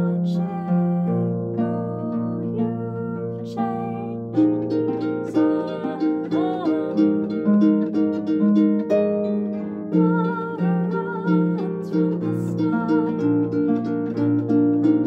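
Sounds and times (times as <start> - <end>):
harp playing chords and melody: 0.0 - 15.0.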